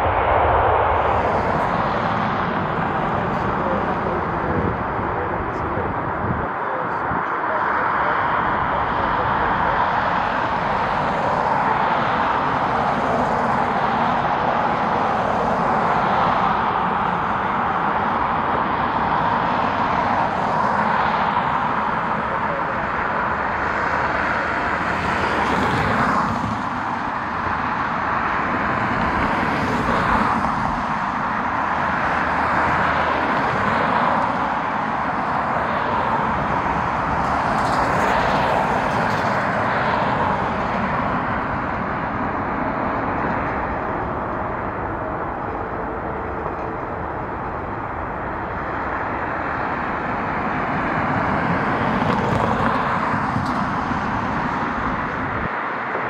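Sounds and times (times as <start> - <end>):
rushing engine noise: 0.0 - 56.0.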